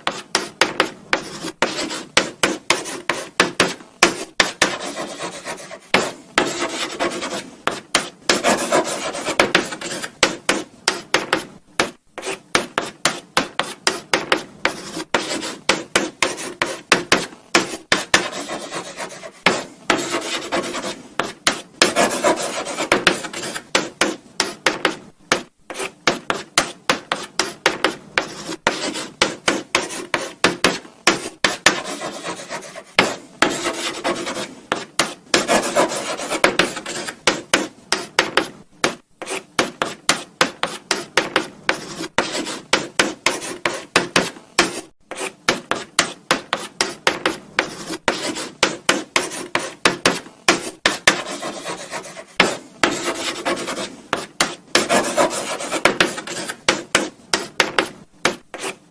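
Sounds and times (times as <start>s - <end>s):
chalk scratching on blackboard: 0.0s - 58.9s.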